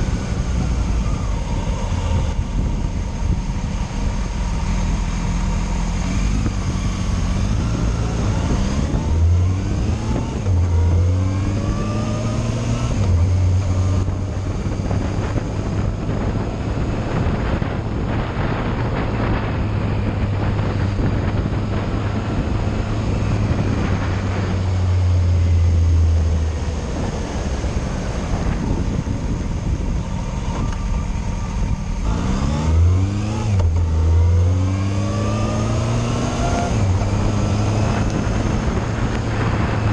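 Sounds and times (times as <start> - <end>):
motorcycle engine accelerating: 0.0 - 39.9
tyres on wet road: 0.0 - 39.9
wind noise: 0.0 - 39.9.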